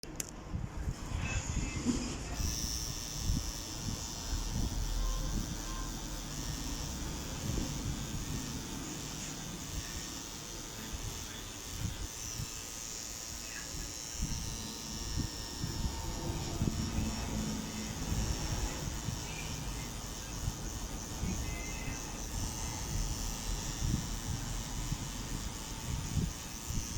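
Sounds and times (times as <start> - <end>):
tattoo machine buzzing: 0.8 - 26.9.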